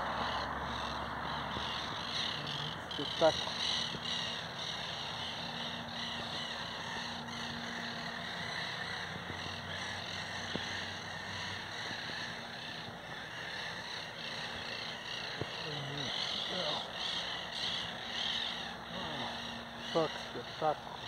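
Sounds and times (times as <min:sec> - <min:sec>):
birds chattering: 0:00.0 - 0:21.0.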